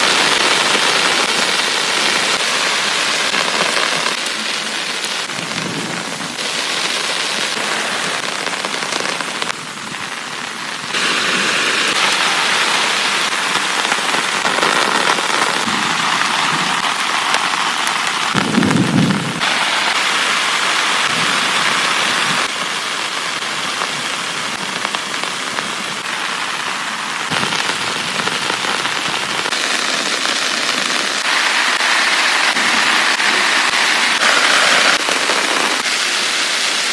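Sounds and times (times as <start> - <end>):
heavy rain pouring: 0.0 - 36.9.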